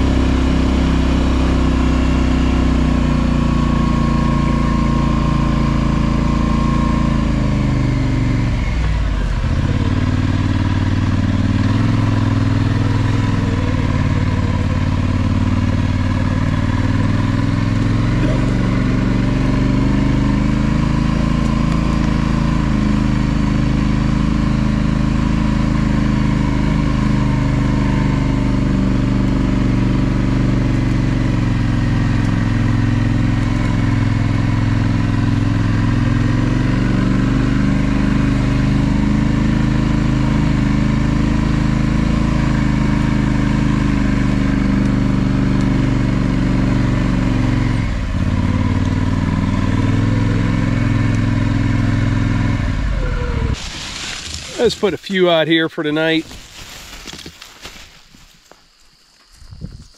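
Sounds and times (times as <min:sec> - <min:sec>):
four-wheeler engine running: 0:00.0 - 0:59.6.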